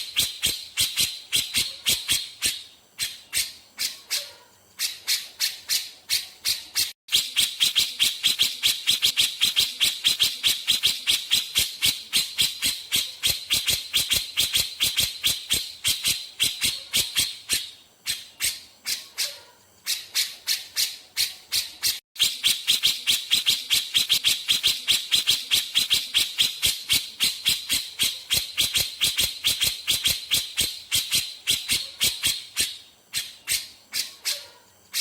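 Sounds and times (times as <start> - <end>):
bulbul rattling song: 0.0 - 35.0.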